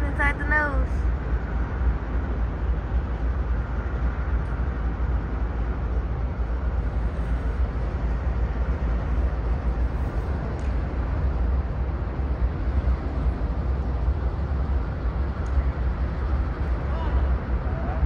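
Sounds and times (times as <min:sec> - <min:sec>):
diesel locomotives rumbling past: 0:00.0 - 0:18.0.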